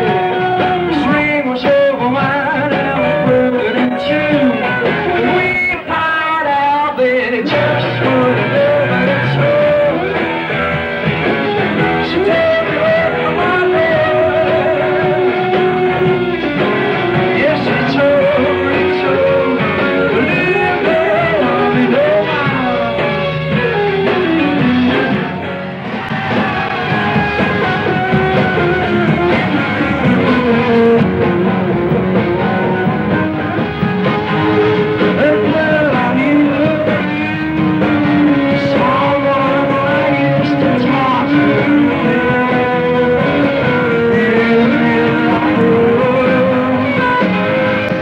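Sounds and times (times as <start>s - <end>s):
person singing: 0.0s - 25.4s, 26.0s - 48.0s
rock band playing live: 0.0s - 48.0s.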